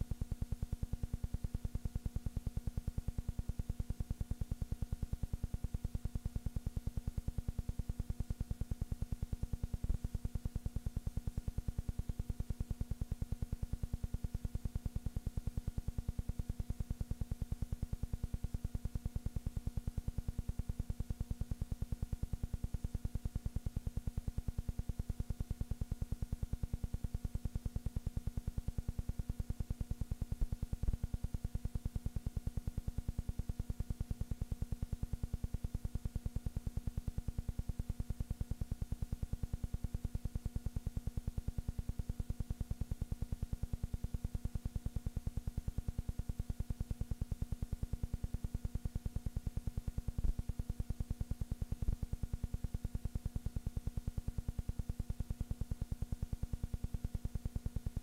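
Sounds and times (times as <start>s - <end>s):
faint steady hum tones: 0.0s - 58.0s
low electrical buzz: 0.0s - 58.0s.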